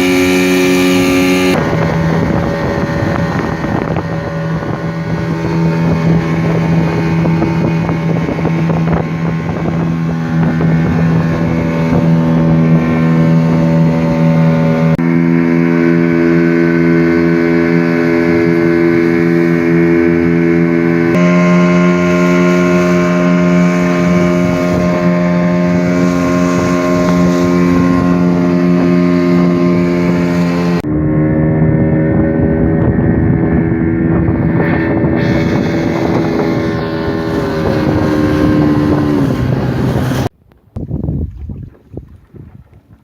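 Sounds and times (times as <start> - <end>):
speedboat engine running: 0.0 - 43.0
wind or water rush: 0.0 - 43.0.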